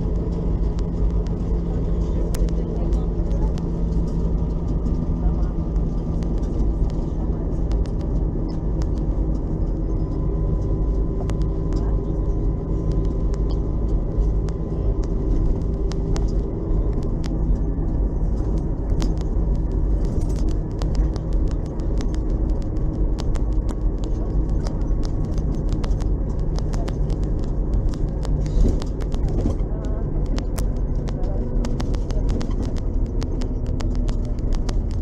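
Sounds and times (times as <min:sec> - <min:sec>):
bus engine droning: 0:00.0 - 0:35.0.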